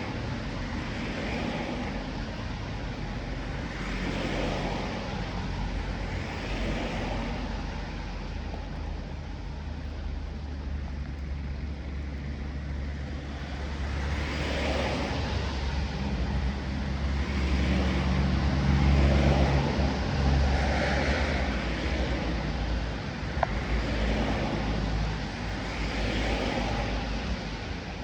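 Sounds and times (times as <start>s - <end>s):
tyre hiss of passing cars: 0.0s - 28.0s
vehicle engine hum: 0.0s - 28.0s.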